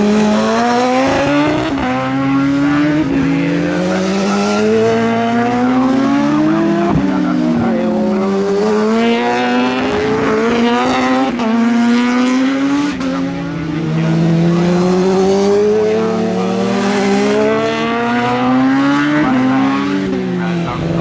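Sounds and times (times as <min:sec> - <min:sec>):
motorcycle engine at full throttle: 0:00.0 - 0:21.0.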